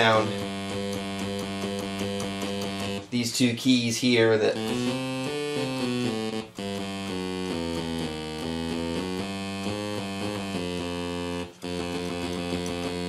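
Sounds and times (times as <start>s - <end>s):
synthesizer short notes: 0.0s - 13.0s.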